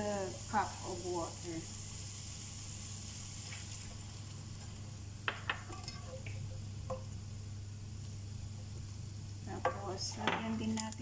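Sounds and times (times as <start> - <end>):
broccoli sizzling in a pan: 0.0 - 11.0
steady low hum: 0.0 - 11.0.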